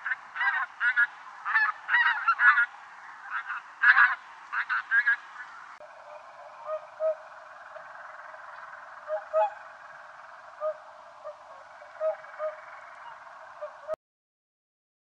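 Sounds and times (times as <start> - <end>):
steady speaker hiss: 0.0 - 13.9
soft animal calls: 0.0 - 14.0.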